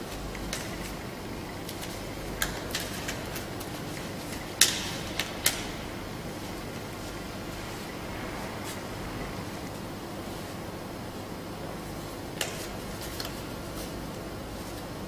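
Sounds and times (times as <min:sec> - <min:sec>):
workshop background hum: 0:00.0 - 0:15.0.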